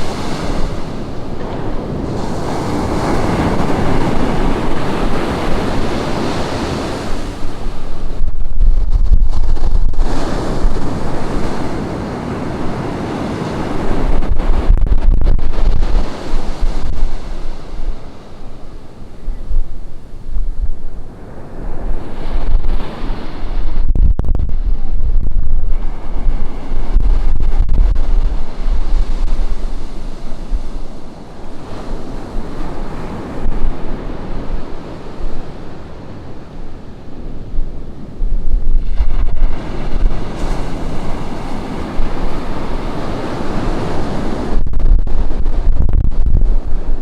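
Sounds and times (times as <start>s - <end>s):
ocean surf breaking on beach: 0.0s - 47.0s
wind buffeting microphone: 0.0s - 47.0s.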